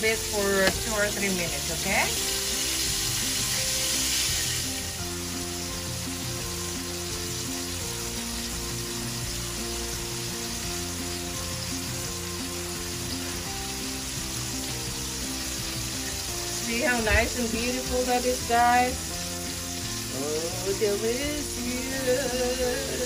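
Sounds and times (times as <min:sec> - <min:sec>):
background music: 0:00.0 - 0:23.0
meat sizzling in a skillet: 0:00.0 - 0:23.0.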